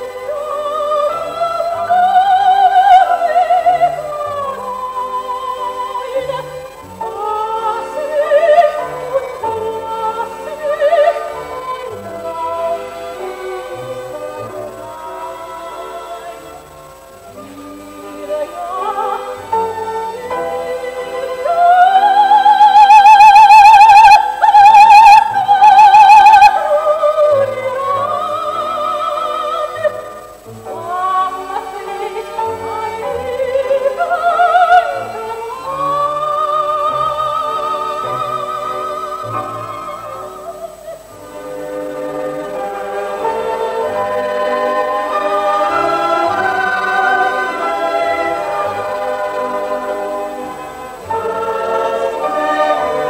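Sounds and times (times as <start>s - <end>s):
chamber orchestra accompaniment: 0.0s - 53.0s
soprano singing with vibrato: 0.0s - 53.0s.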